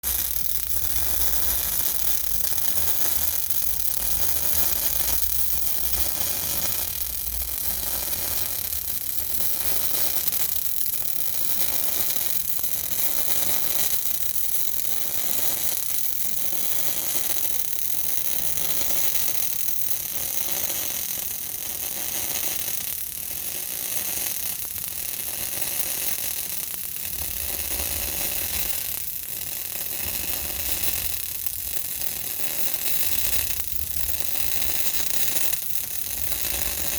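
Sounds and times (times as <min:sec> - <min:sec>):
welding arc crackling: 0:00.0 - 0:36.9.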